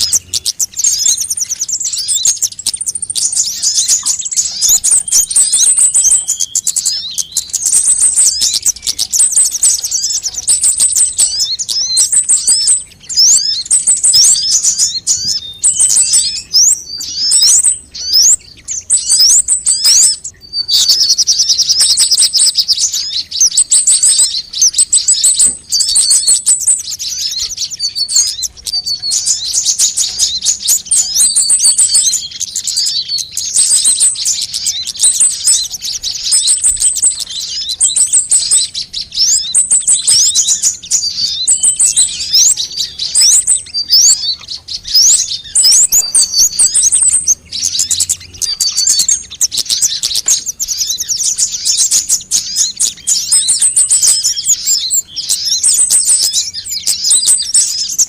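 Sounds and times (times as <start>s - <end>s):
birds chirping and trilling: 0.0s - 58.0s.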